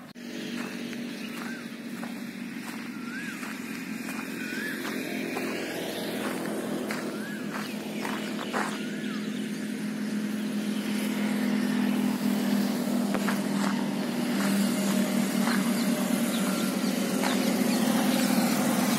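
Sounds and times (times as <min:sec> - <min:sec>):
vehicle engine humming: 0:00.0 - 0:18.9.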